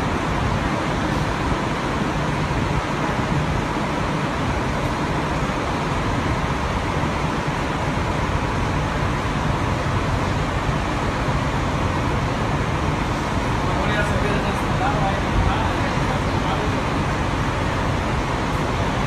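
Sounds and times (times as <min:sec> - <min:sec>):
bus engine rumble: 0:00.0 - 0:19.0
ventilation fans hissing: 0:00.0 - 0:19.0.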